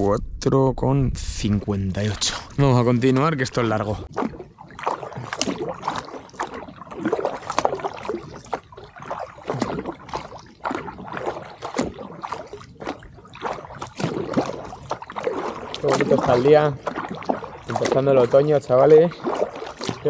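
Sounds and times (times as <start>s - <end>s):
water dripping: 1.4s - 20.0s
paddle splashing in water: 1.9s - 20.0s.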